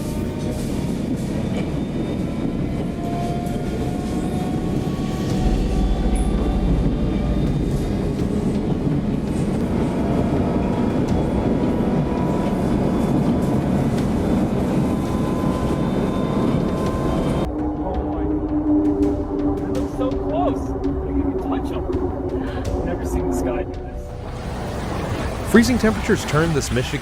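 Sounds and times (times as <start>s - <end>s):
loud steady rumbling: 2.3s - 27.0s.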